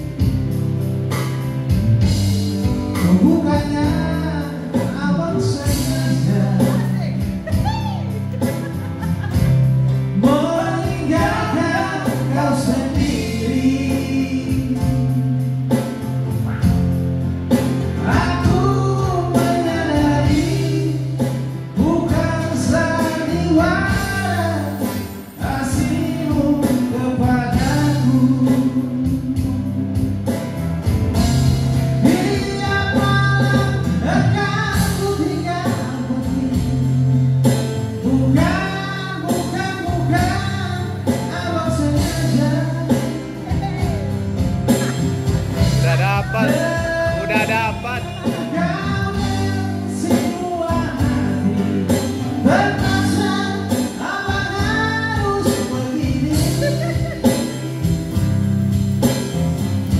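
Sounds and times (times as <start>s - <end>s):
acoustic guitar: 0.0s - 59.9s
keyboard accompaniment: 0.0s - 59.9s
men singing into microphones: 3.0s - 15.7s, 17.9s - 30.2s, 32.0s - 43.9s, 44.7s - 58.4s.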